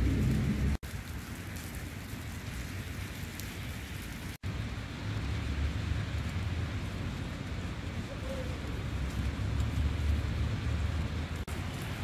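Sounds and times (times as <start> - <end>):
hiss of falling wet snow: 0.0 - 12.0
wind rumble on microphone: 0.0 - 12.0.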